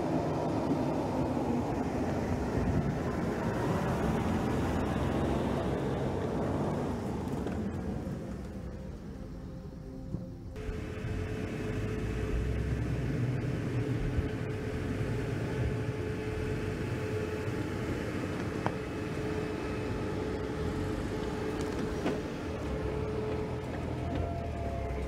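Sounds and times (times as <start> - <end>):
pickup truck engine running: 0.0 - 25.0.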